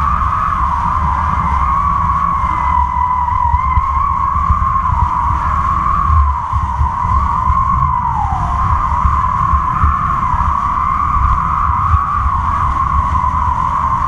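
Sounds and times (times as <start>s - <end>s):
wind rumble on microphone: 0.0s - 14.0s
wind whistling over line: 0.0s - 14.0s.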